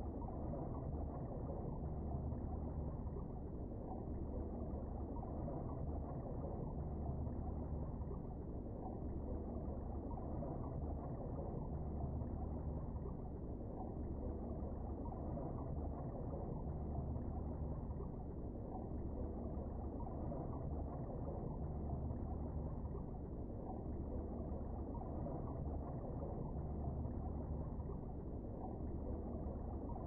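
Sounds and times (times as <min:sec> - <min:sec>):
muffled underwater rumble: 0:00.0 - 0:30.0.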